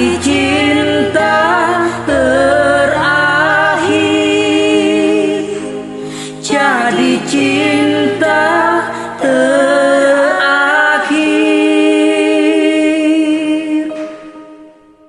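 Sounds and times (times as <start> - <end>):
person singing a pop ballad: 0.0 - 14.8.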